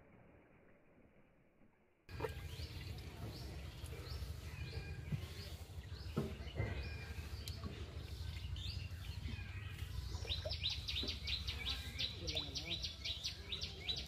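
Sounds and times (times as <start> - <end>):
small birds chirping: 2.1 - 14.0.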